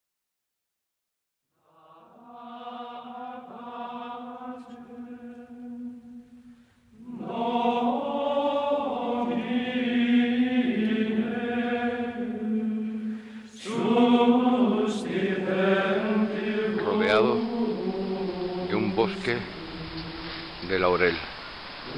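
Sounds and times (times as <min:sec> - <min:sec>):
chanting voices: 0:01.6 - 0:21.9
low drone: 0:02.4 - 0:21.9.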